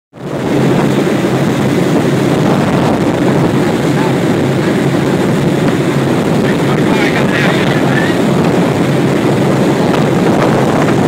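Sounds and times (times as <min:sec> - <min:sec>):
boat engine running: 0:00.2 - 0:11.0
rush of churning wake: 0:00.2 - 0:11.0.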